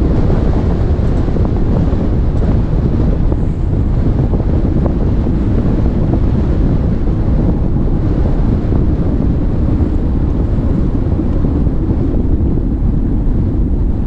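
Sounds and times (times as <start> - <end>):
choppy water along hull: 0.0 - 14.0
wind buffeting microphone: 0.0 - 14.0.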